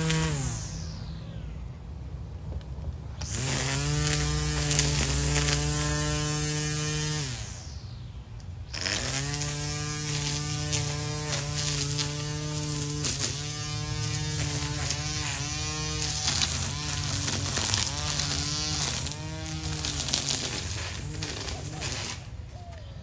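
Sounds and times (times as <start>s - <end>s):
string trimmer motor whining: 0.0s - 1.6s, 3.2s - 7.8s, 8.6s - 22.4s.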